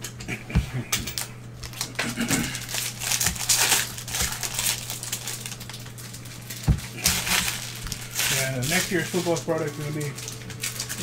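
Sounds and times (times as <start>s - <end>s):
riffling through cards: 0.5s - 11.0s
wrapper crinkling: 1.2s - 11.0s.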